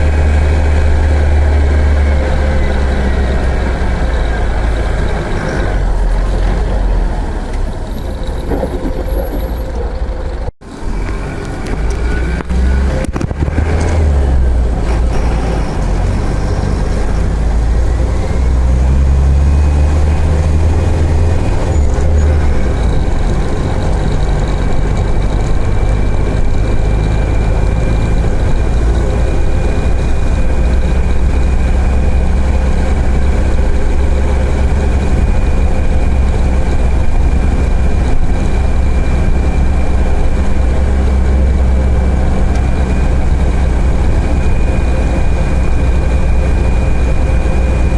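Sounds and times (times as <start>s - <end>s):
bus diesel engine pulling hard: 0.0s - 47.9s.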